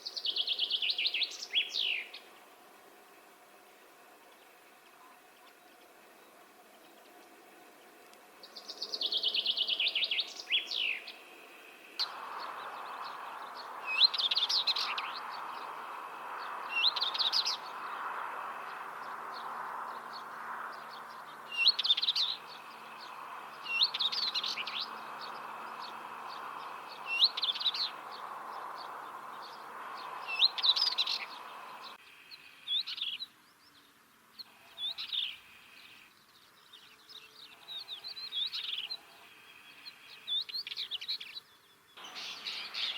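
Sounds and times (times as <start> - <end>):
steady background hiss: 0.0 - 42.9.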